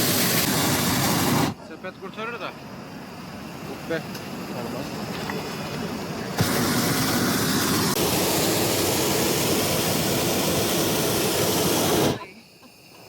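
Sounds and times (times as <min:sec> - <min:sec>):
propane burner hissing: 0:00.0 - 0:13.0.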